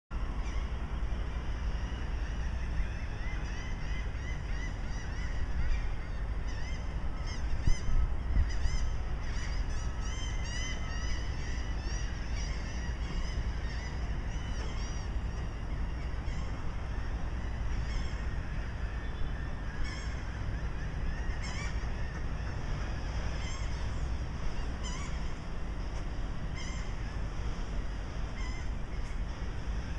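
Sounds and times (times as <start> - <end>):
steady low rumble: 0.1 - 29.9
birds chirping: 0.2 - 29.9.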